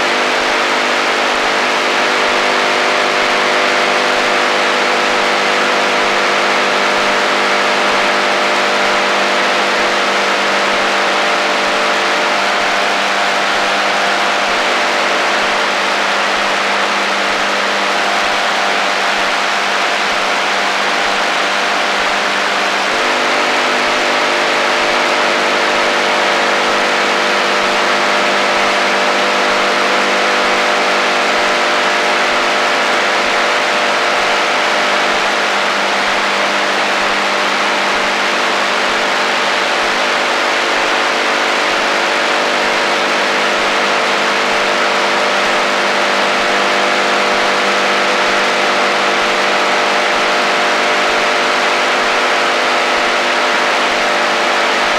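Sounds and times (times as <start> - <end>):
humming tones: 0.0 - 54.9
radio static hiss: 0.0 - 54.9.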